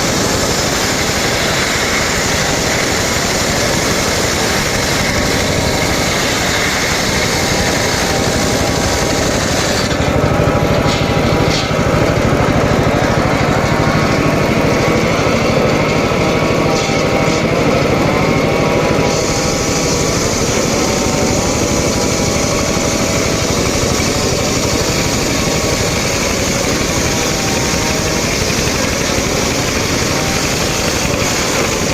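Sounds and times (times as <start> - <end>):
circular saw cutting wood: 0.0 - 31.9.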